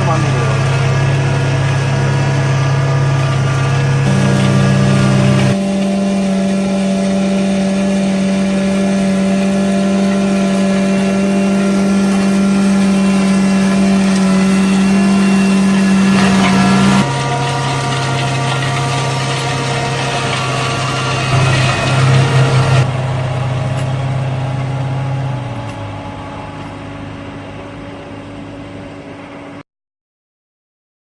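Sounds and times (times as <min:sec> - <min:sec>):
higher steady engine tone: 0:00.0 - 0:29.6
machine engine low hum: 0:00.0 - 0:29.6.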